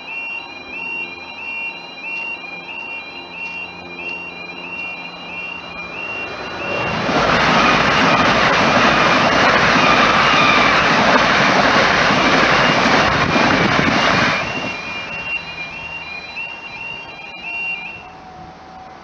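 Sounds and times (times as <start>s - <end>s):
crossing alarm warbling: 0.0s - 19.0s
train passing at speed: 0.0s - 19.0s.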